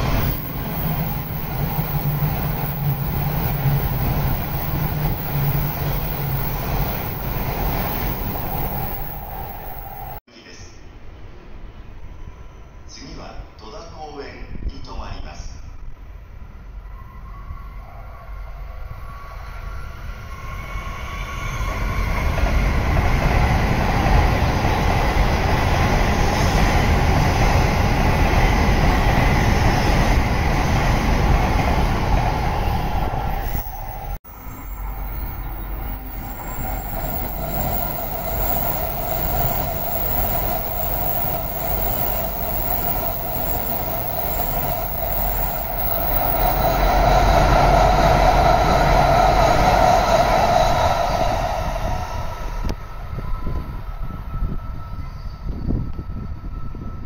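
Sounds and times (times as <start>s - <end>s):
high-speed train passing: 0.0s - 57.0s.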